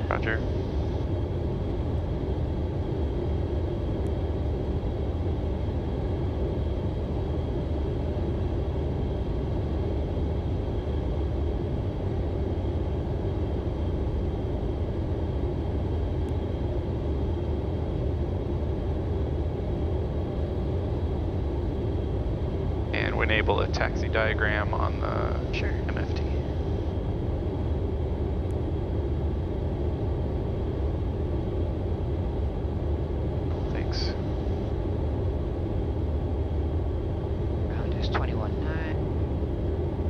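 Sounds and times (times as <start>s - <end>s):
faint high whine: 0.0s - 40.0s
jet engines humming: 0.0s - 40.0s.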